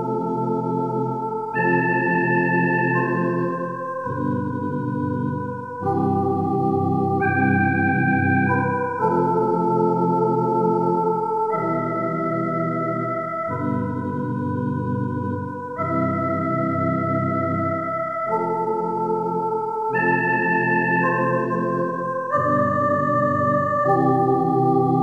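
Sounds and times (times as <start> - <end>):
organ music: 0.0 - 25.0.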